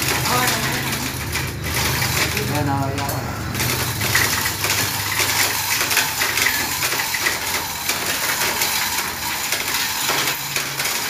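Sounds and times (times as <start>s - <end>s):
chain hoist chain rattling: 0.0s - 11.0s.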